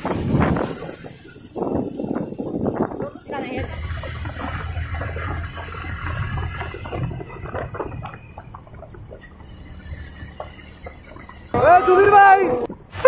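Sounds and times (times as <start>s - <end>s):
motorcycle engine drone: 0.0s - 13.0s
wind buffeting microphone: 0.0s - 13.0s.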